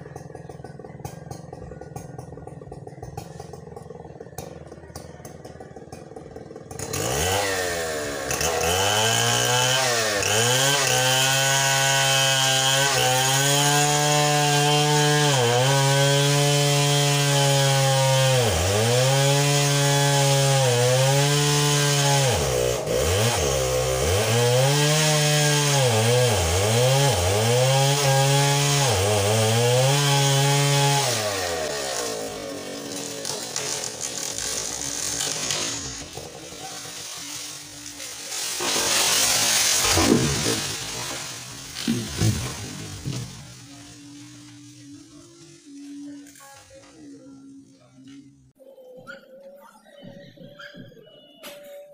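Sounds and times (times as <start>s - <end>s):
chainsaw revving: 0.0s - 46.4s.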